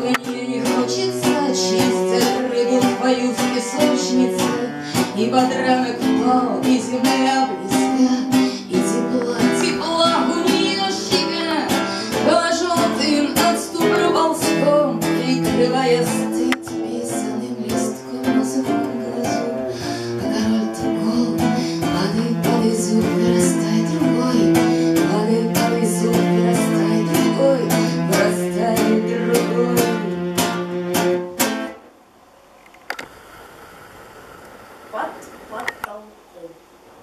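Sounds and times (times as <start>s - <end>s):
acoustic guitar strummed and plucked: 0.0s - 31.9s.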